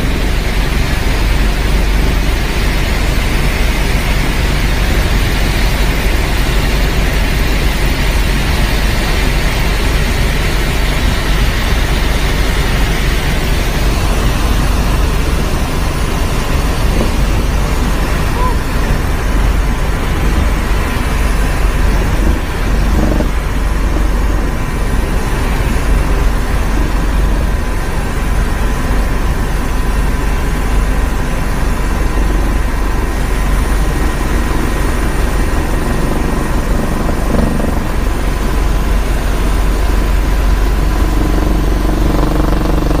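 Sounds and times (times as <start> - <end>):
faint steady whine: 0.0 - 43.0
helicopter rotor and engine drone: 0.0 - 43.0.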